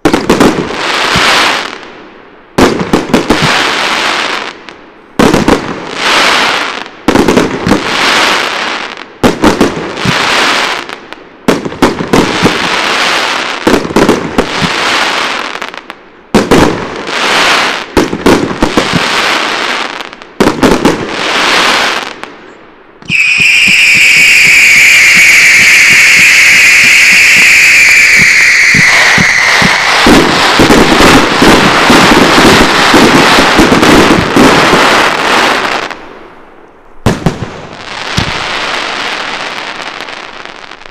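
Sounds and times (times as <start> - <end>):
whistling fireworks: 0.0 - 1.9, 2.6 - 40.9
fireworks launching and bursting: 0.0 - 40.9.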